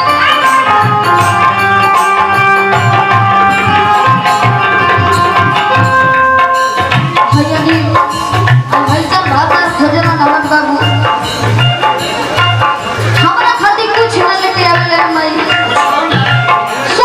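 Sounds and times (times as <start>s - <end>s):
hand drums: 0.0s - 17.0s
held melody notes: 0.0s - 17.0s
melodic line: 0.0s - 17.0s.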